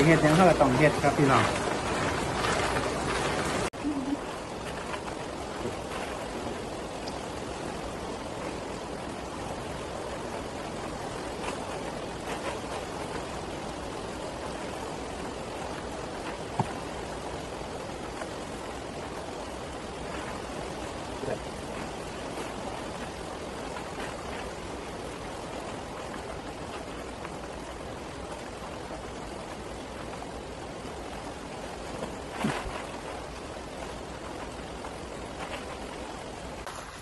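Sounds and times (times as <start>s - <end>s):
rain on a plastic roof: 0.0s - 37.0s.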